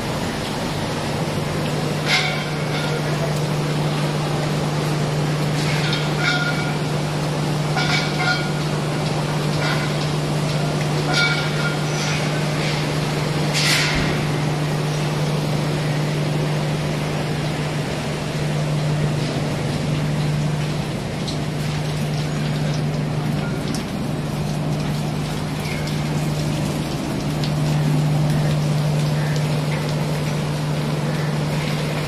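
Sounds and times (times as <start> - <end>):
low machine hum: 0.0 - 32.0
water rushing through cooling tower: 0.0 - 32.0.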